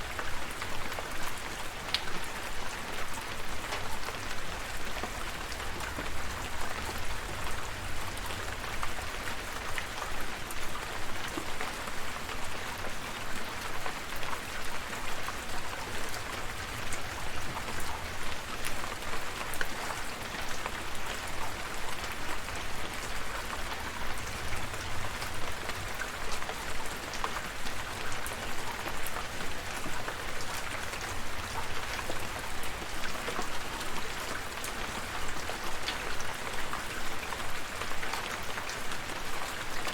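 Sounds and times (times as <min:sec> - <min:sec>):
rain drops ticking on surface: 0:00.0 - 0:39.9.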